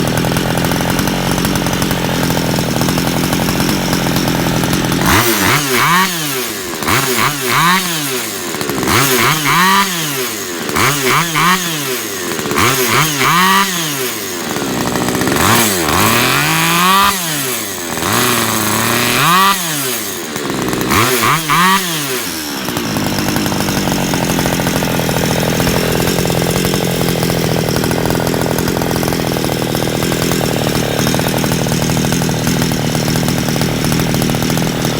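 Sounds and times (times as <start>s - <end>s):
brush cutter engine idling and revving: 0.0s - 34.9s.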